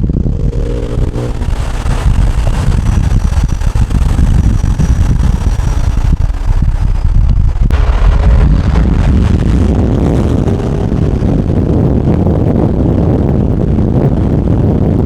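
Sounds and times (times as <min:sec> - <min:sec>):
faint high whine: 0:00.0 - 0:12.5
car engine accelerating: 0:00.0 - 0:13.4.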